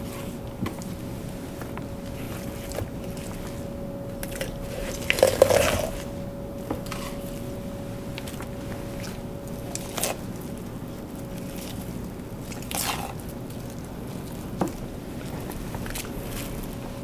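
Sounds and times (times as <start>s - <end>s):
steady electric hum: 0.0s - 17.0s.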